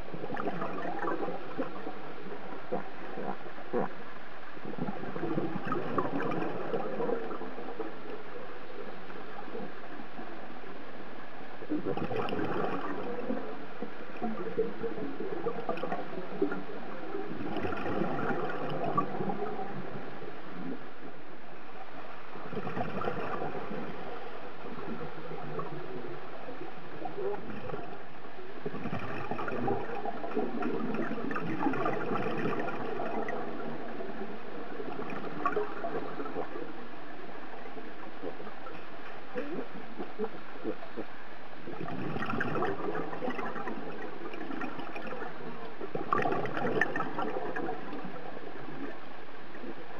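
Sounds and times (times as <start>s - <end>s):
underwater bubbles gurgling: 0.0s - 49.9s.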